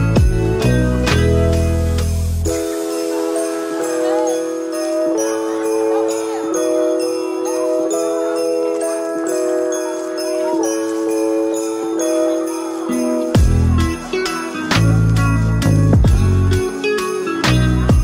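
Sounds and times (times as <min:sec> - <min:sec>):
christmas music with sleigh bells: 0:00.0 - 0:18.0.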